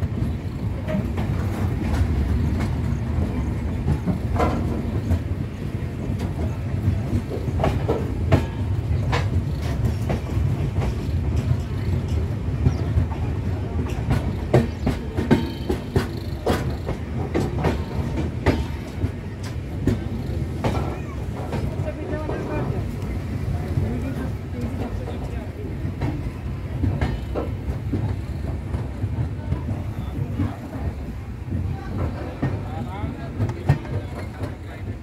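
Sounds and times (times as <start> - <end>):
train rumbling: 0.0 - 35.0
wheels clicking on track: 0.0 - 35.0.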